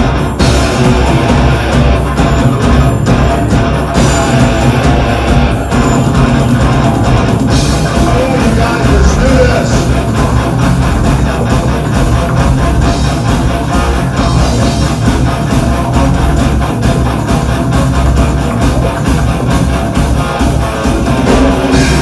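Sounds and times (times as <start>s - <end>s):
distorted electric guitar: 0.0s - 22.0s
drum kit: 0.0s - 22.0s
keyboards: 0.0s - 22.0s.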